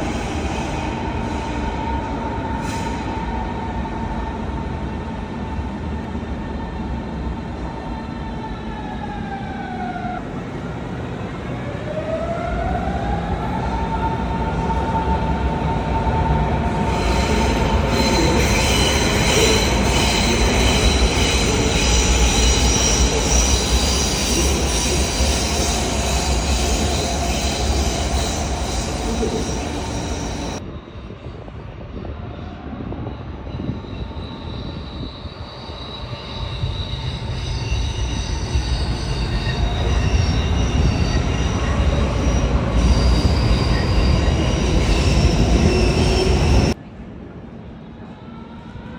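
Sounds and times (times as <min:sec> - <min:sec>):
train wheel squeal: 0:00.0 - 0:04.4, 0:11.9 - 0:46.8.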